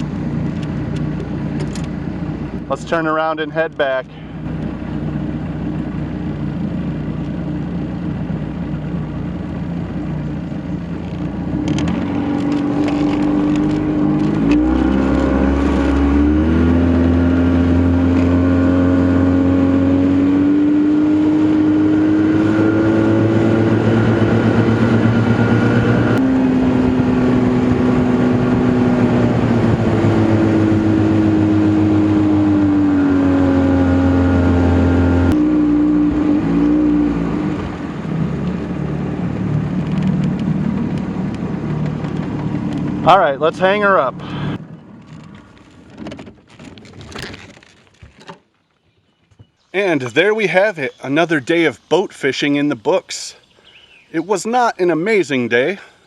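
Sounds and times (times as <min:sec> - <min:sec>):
outboard motor running: 0:00.0 - 0:54.4.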